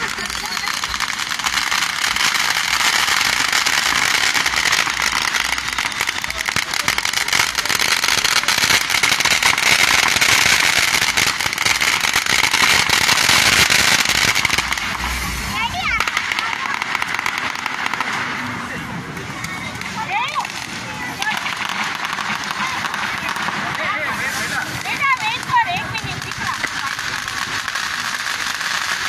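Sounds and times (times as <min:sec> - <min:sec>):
firecrackers crackling: 0:00.0 - 0:29.0.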